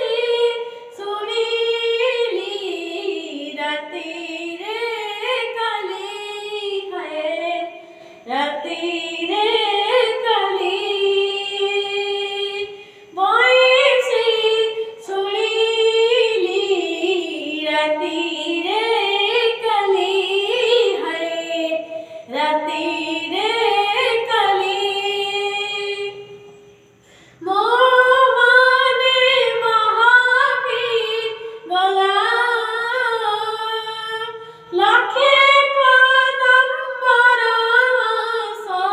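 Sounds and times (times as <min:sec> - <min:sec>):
child singing: 0:00.0 - 0:07.7, 0:08.3 - 0:26.2, 0:27.4 - 0:38.9.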